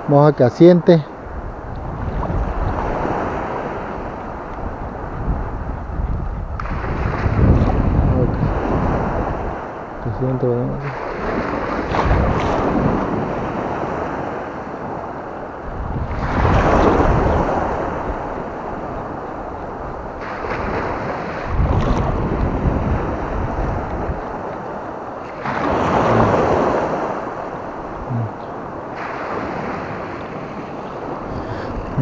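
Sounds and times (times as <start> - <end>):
small sea surf: 0.0 - 32.0
wind buffeting microphone: 1.1 - 32.0.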